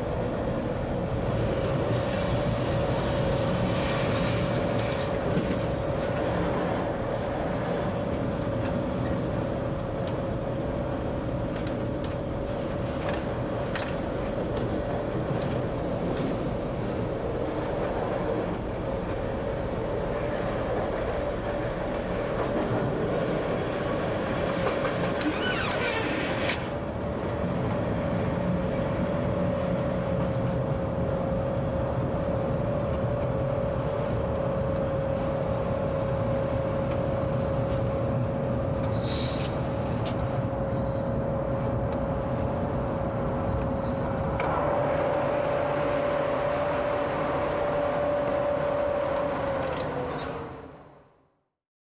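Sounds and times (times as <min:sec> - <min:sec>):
train rolling over rails: 0:00.0 - 0:50.8.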